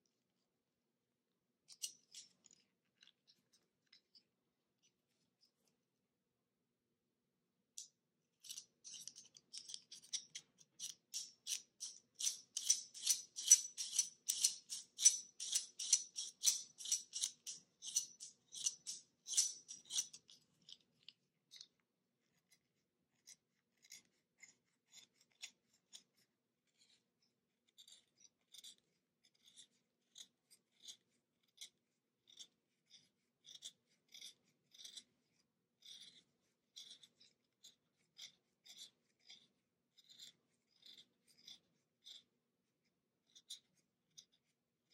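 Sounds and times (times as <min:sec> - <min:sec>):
knife blade shaving pencil wood: 0:08.4 - 0:44.9.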